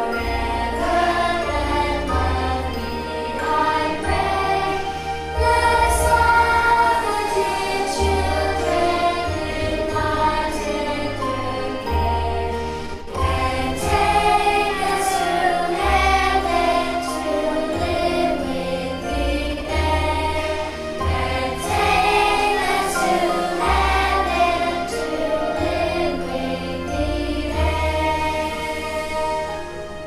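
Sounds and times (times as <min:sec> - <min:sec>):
children's choir singing: 0:00.0 - 0:30.0
instrumental accompaniment with bass: 0:00.0 - 0:30.0.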